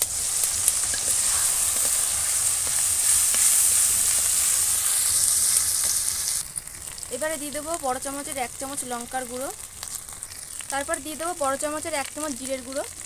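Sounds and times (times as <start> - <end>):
spice paste sizzling in oil: 0.0 - 13.0.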